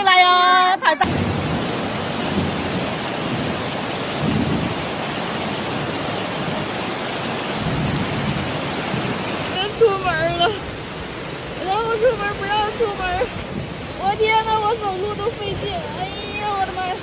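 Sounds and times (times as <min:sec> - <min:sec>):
heavy rain pouring: 0:01.0 - 0:17.0
low rumbles: 0:01.0 - 0:17.0.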